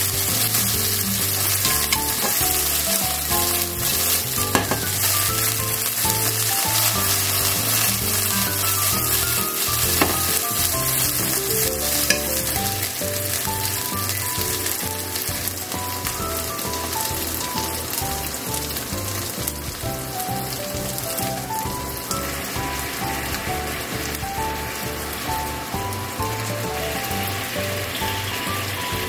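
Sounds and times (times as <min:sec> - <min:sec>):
meat sizzling in a frying pan: 0:00.0 - 0:29.0.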